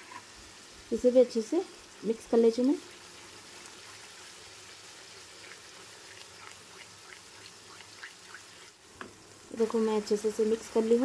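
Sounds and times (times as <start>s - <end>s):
sauce sizzling and bubbling: 0.0s - 11.0s.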